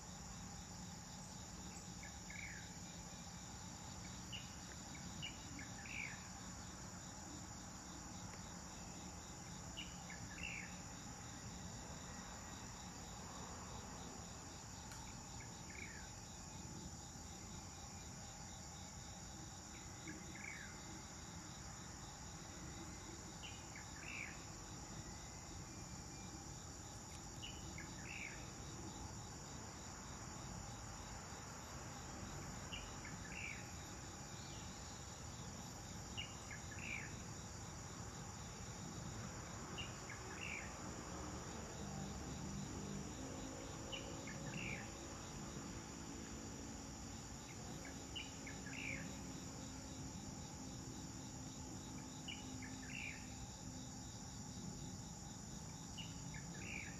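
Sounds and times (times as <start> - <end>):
insects chorus: 0.0 - 56.9.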